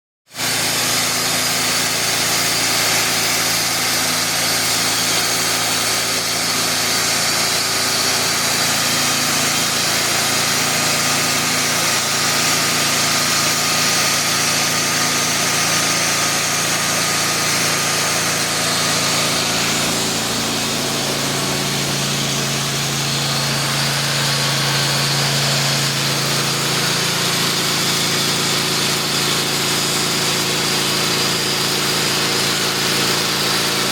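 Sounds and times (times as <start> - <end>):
sawmill engine running: 0.4 - 33.9.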